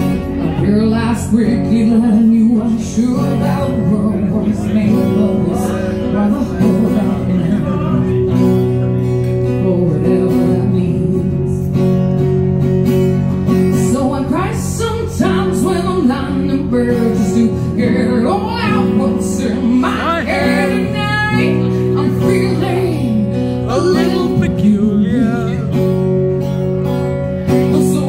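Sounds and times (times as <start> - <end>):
acoustic guitar: 0.0 - 28.0
woman singing: 0.4 - 8.2, 9.4 - 11.8, 13.6 - 25.8, 27.5 - 28.0.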